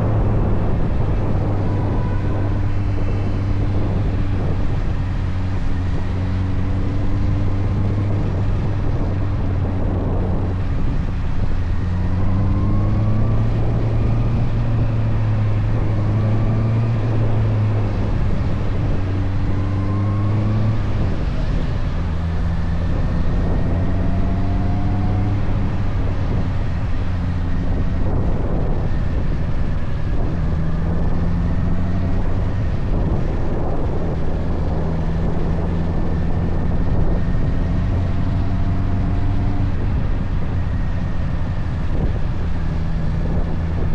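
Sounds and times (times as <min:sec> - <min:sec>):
motorcycle engine revving: 0:00.0 - 0:43.9
road and wind noise: 0:00.0 - 0:43.9.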